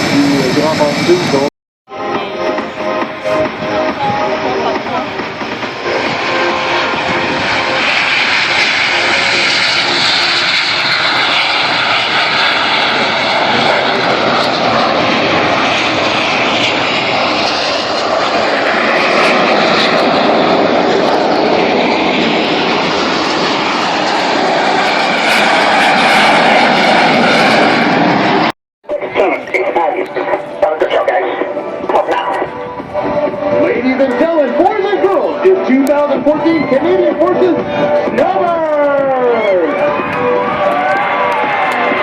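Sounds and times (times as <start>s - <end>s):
airplane engine flying by: 0.0s - 42.0s.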